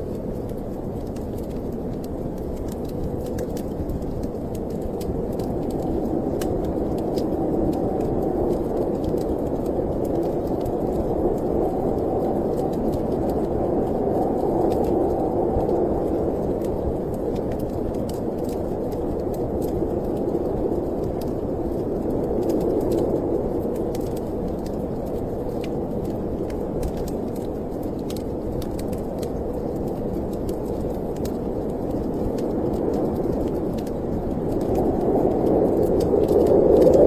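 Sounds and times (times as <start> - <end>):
snowstorm wind: 0.0 - 37.0
wood fire crackling: 0.0 - 37.0.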